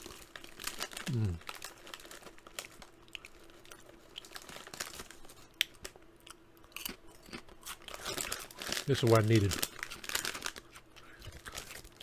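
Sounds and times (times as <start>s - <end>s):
person crunching potato chips: 0.0s - 12.0s.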